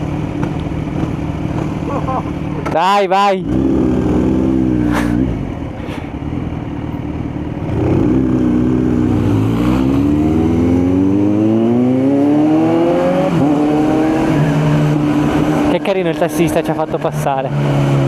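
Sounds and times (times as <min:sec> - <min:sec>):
motorcycle engine accelerating: 0:00.0 - 0:02.8, 0:03.4 - 0:18.0.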